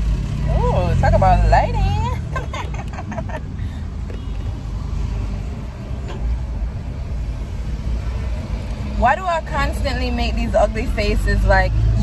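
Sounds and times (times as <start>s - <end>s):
car rumble from inside cabin: 0.0s - 8.0s, 8.6s - 12.0s.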